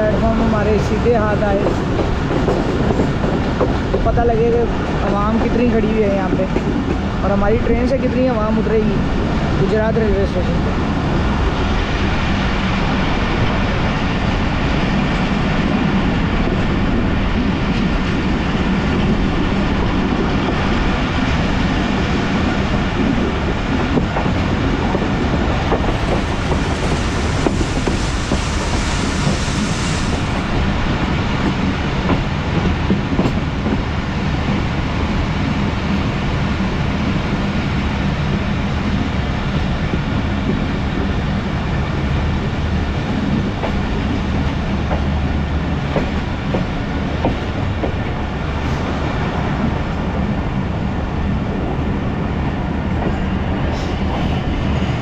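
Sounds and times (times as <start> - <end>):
train wheels rumbling over rails: 0.0 - 55.0.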